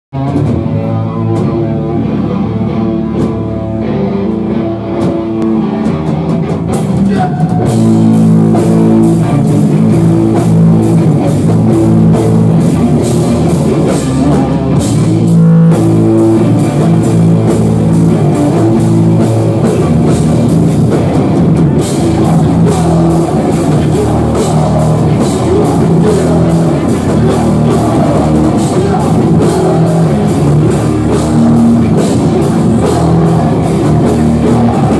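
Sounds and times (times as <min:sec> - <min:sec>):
rock band playing live: 0:00.1 - 0:34.9
drums with cymbals: 0:06.2 - 0:34.9.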